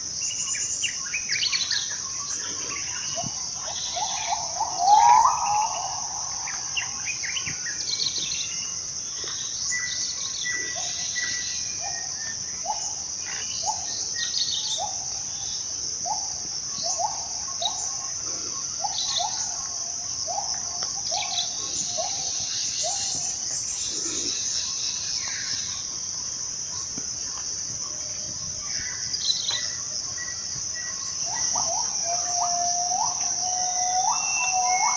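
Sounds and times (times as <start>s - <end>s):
insects droning: 0.0s - 34.9s
birds chirping and calling: 0.3s - 34.9s.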